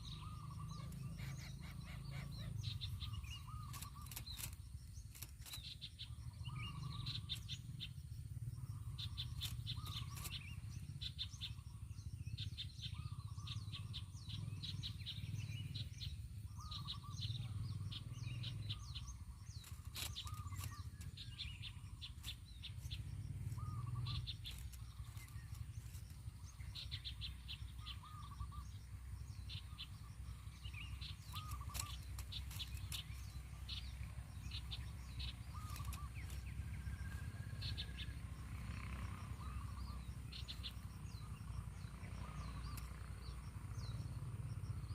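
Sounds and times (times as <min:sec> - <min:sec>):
low background rumble: 0:00.0 - 0:44.9.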